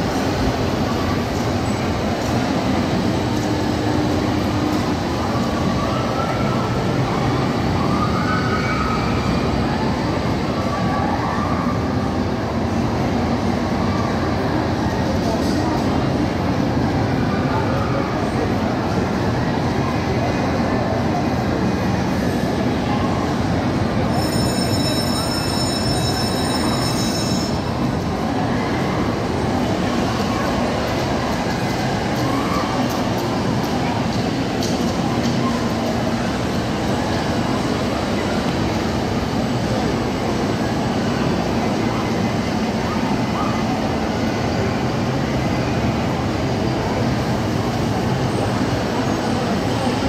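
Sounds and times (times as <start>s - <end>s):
roller coaster cars rumbling: 0.0s - 50.0s.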